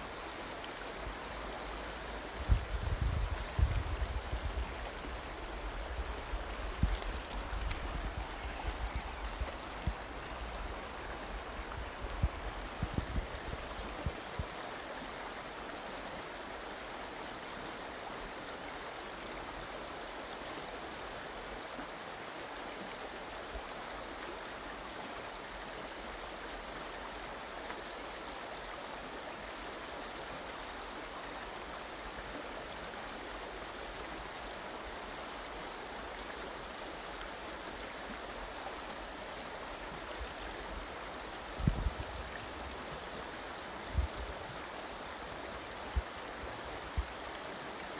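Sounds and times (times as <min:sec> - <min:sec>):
river water rushing over stones: 0:00.0 - 0:47.9.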